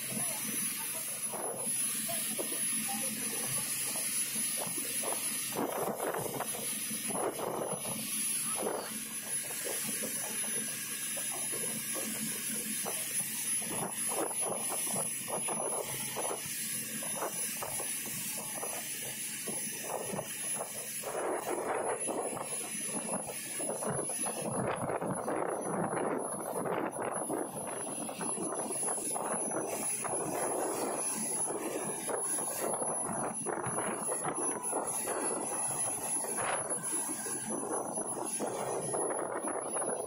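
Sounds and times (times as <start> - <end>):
boat engine noise: 0.0 - 40.0.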